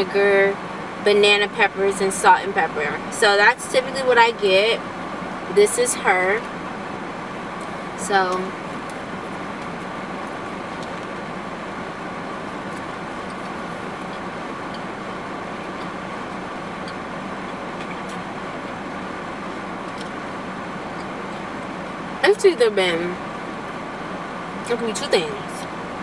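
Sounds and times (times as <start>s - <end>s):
air conditioning hum: 0.0s - 26.0s
faint steady tones: 0.0s - 26.0s.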